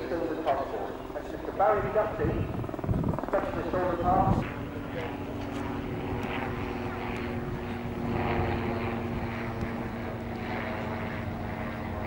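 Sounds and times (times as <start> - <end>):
steady engine drone: 0.0 - 12.0.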